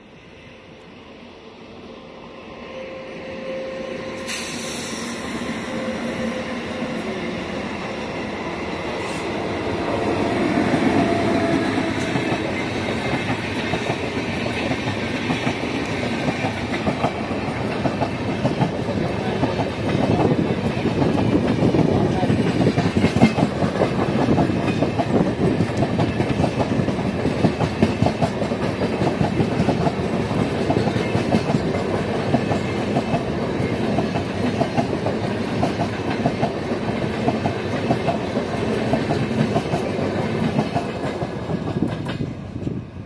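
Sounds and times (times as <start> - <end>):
train approaching: 0.0 - 43.0
train wheels clattering over rails: 6.3 - 42.8.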